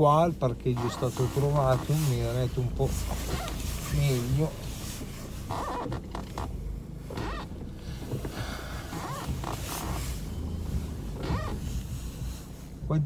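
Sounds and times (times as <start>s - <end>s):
low steady hum: 0.0s - 13.0s
jacket sleeve brushing: 0.7s - 12.8s.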